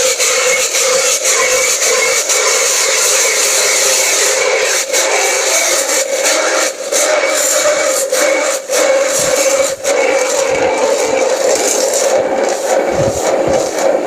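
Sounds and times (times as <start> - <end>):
steam wand hissing into water: 0.0 - 14.0
underlying hum: 0.0 - 14.0.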